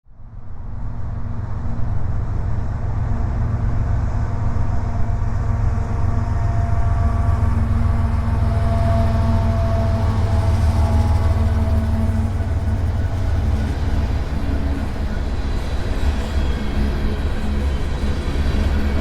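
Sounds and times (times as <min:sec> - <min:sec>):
locomotive engine rumble: 0:00.9 - 0:19.0.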